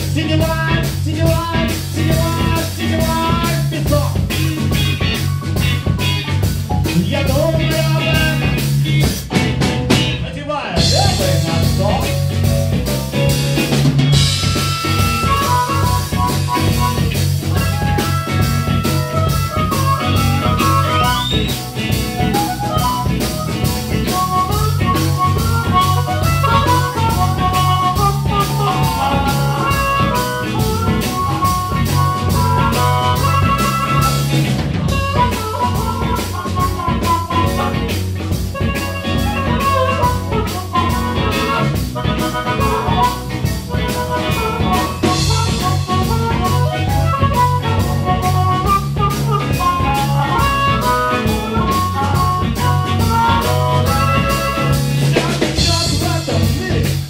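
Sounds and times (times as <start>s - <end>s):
harmonica lead: 0.0s - 10.2s, 10.8s - 56.9s
bass guitar: 0.0s - 57.0s
drum kit beat: 0.0s - 57.0s
electric guitars: 0.0s - 57.0s.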